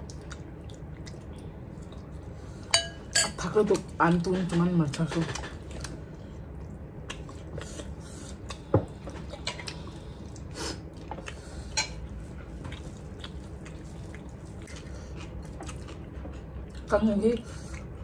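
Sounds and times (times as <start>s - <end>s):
chewing with wet mouth clicks: 0.0s - 2.4s, 5.6s - 18.0s.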